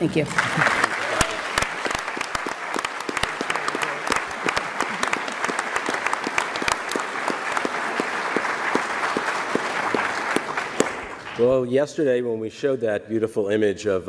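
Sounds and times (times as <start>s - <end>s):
people clapping: 0.0s - 11.8s.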